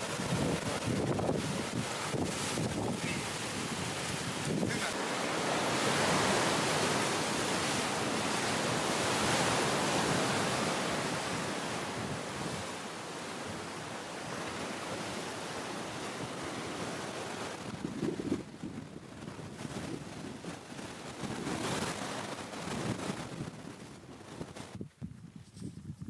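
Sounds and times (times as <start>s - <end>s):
sea waves washing on shore: 0.0s - 24.6s.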